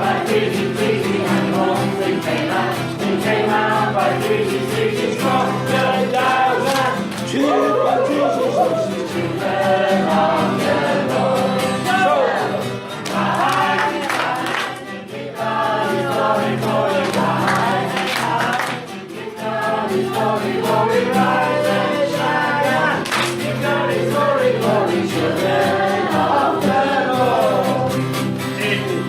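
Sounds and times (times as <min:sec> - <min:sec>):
group of voices singing: 0:00.0 - 0:29.0.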